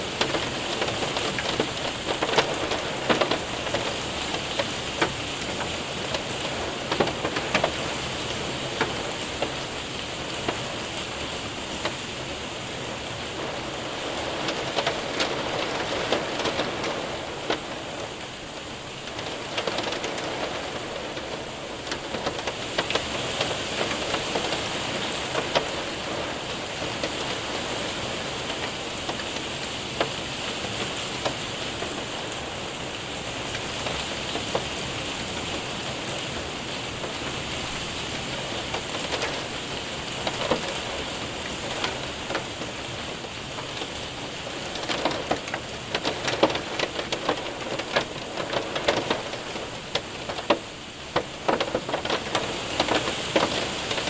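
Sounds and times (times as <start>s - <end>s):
hailstones ticking: 0.0s - 54.0s
steady hiss of rain: 0.0s - 54.0s.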